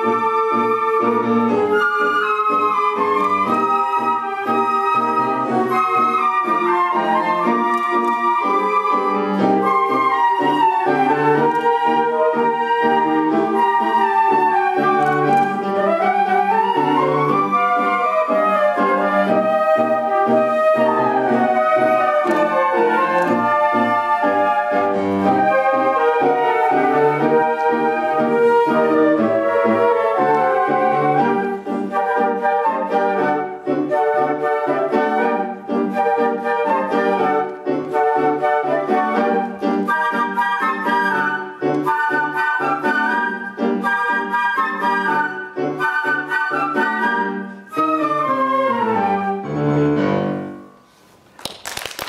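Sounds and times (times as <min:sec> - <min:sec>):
flute ensemble playing a tango: 0:00.0 - 0:51.0.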